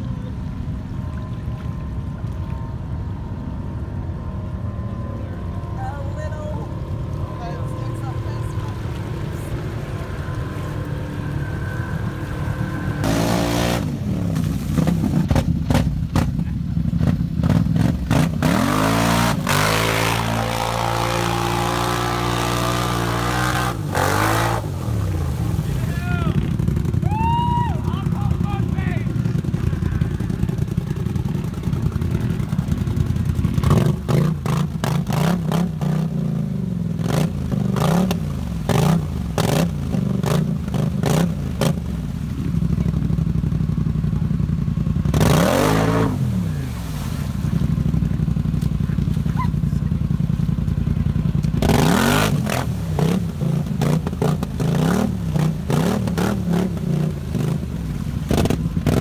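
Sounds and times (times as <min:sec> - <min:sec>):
off-road vehicle engine revving: 0:04.0 - 0:59.0.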